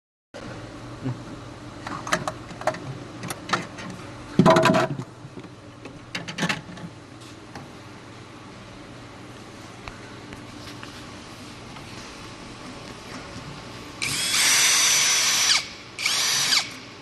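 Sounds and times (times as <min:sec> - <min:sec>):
low steady hum: 0:00.4 - 0:17.0.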